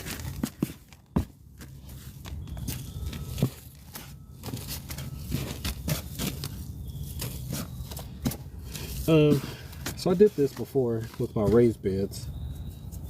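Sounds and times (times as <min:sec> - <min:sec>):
materials crinkling and rustling: 0:00.0 - 0:13.0.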